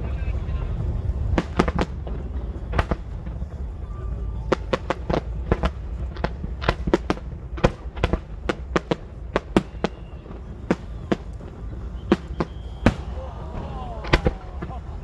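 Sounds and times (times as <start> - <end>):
fireworks bangs: 0.0 - 15.0
steady low rumble: 0.0 - 15.0.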